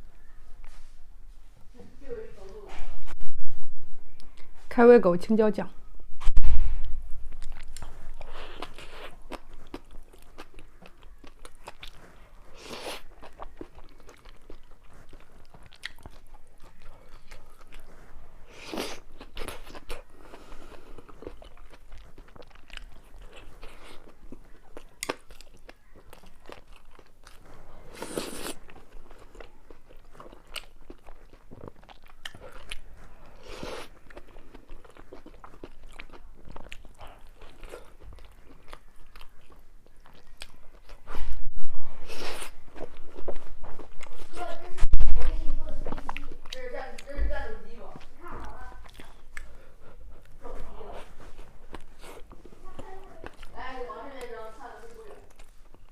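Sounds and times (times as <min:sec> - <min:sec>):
chewing and smacking: 0:07.2 - 0:41.2, 0:42.2 - 0:55.9.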